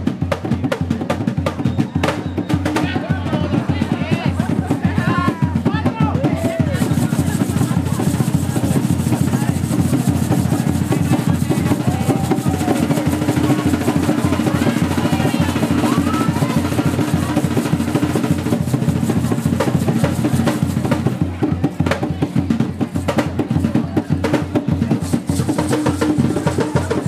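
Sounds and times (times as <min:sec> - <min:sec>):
hand drums in fast rhythm: 0:00.0 - 0:27.0.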